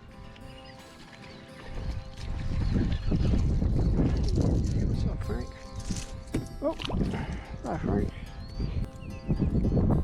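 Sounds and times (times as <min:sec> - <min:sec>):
background music with held tones: 0:00.0 - 0:03.9, 0:04.5 - 0:10.0.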